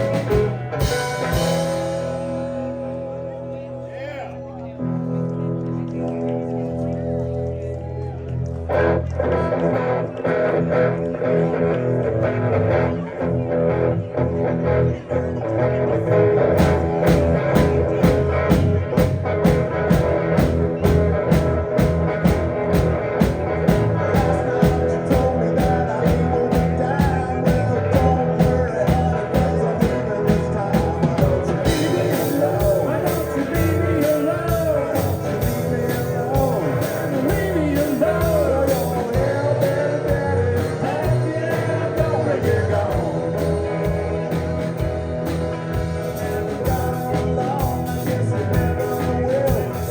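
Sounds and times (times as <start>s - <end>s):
lead guitar bending notes: 0.0s - 3.9s, 8.5s - 49.9s
live country-rock band playing: 0.0s - 3.9s, 4.5s - 49.9s.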